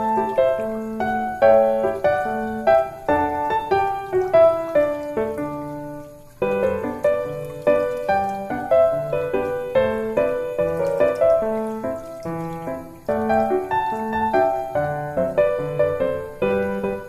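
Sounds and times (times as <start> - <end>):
light piano tune: 0.0 - 17.0.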